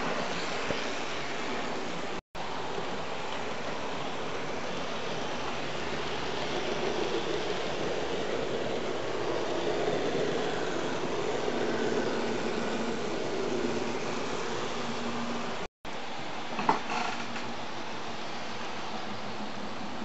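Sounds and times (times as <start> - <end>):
wheels rumbling on rails: 0.0 - 16.3.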